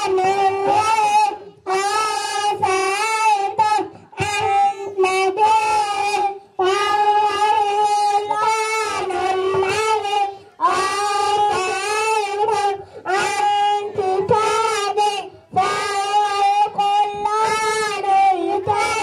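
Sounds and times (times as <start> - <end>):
child singing: 0.0 - 19.0.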